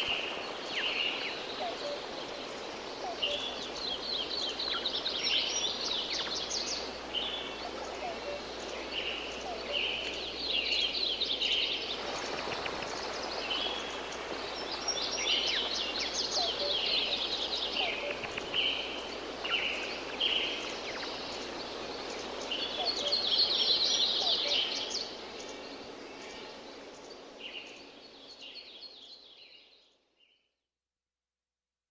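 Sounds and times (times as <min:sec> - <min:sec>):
birds calling and trilling: 0:00.0 - 0:28.4
steady forest hiss: 0:00.0 - 0:30.5.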